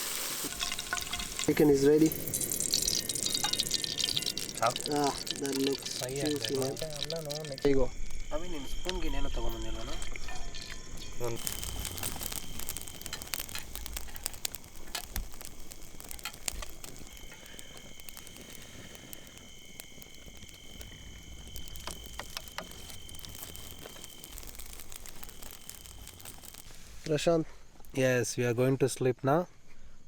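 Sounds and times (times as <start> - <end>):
campfire crackling and popping: 0.0 - 28.8
high-pitched insect trill: 0.0 - 30.0.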